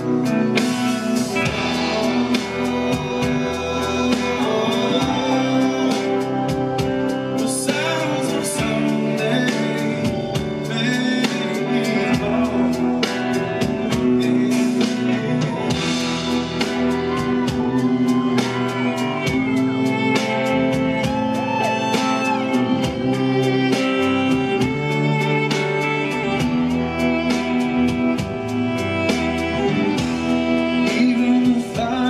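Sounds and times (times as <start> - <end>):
bass guitar: 0.0 - 32.0
drum kit beat: 0.0 - 32.0
electric guitar: 0.0 - 32.0
male lead vocals: 0.0 - 32.0.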